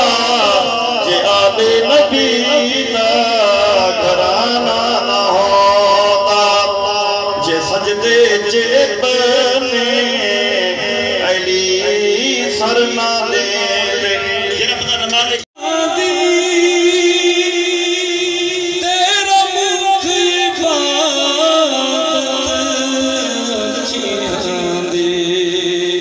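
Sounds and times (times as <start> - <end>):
person chanting through a microphone: 0.0 - 26.0.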